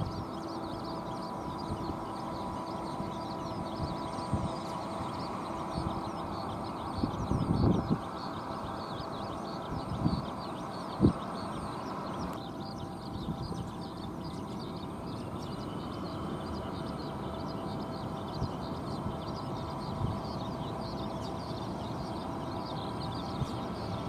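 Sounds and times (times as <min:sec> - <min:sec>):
higher whine rising in pitch: 0:00.0 - 0:24.0
jet engines humming with whine: 0:00.0 - 0:24.0.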